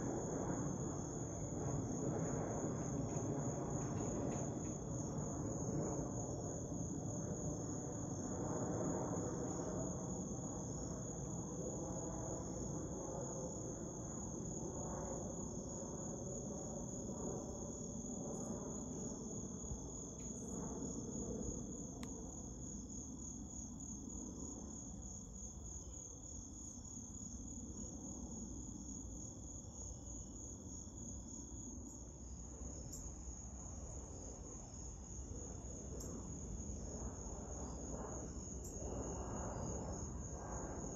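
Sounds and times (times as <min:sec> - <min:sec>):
jet airliner engines rumbling: 0:00.0 - 0:25.6, 0:31.6 - 0:40.9
insects trilling: 0:00.0 - 0:40.9.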